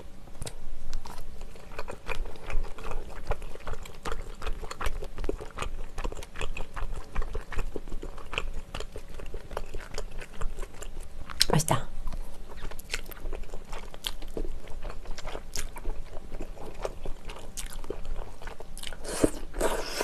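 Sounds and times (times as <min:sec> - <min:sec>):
chewing: 0:00.4 - 0:20.0.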